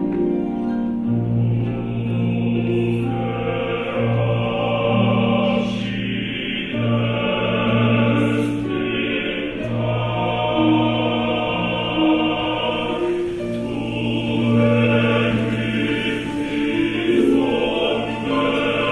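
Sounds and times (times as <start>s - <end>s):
choir singing sustained chords: 0.0s - 18.9s.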